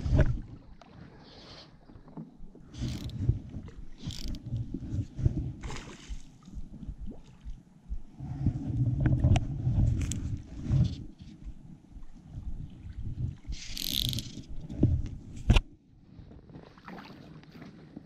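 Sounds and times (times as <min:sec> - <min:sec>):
handling and wind rumble: 0:00.0 - 0:00.8, 0:01.8 - 0:16.8.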